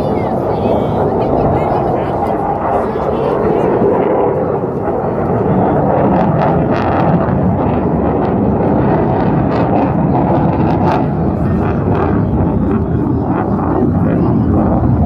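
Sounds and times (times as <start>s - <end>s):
military jet engine roar: 0.0s - 15.0s.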